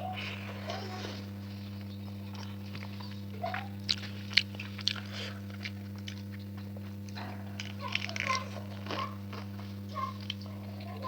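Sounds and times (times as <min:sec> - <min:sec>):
steady low hum: 0:00.0 - 0:11.0
person chewing and biting: 0:01.2 - 0:10.9.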